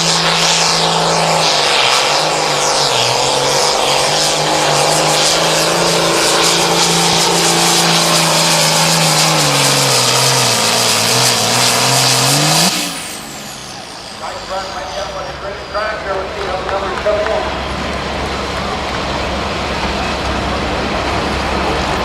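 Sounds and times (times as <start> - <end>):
diesel tractor engine roaring: 0.0 - 22.0.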